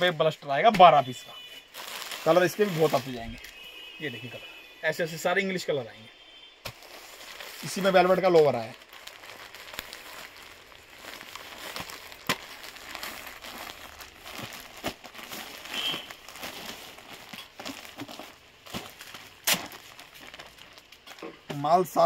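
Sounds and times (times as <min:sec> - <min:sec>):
plastic garment bags crinkling: 0:00.0 - 0:04.4, 0:06.6 - 0:22.0.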